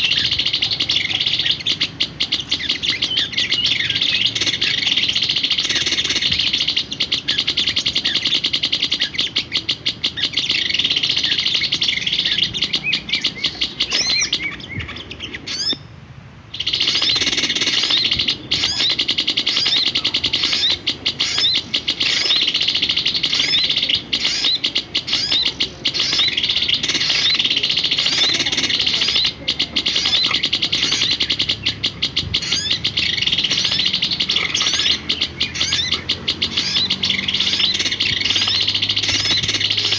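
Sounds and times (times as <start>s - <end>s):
small songbird chirping: 0.0s - 15.9s, 16.5s - 39.9s.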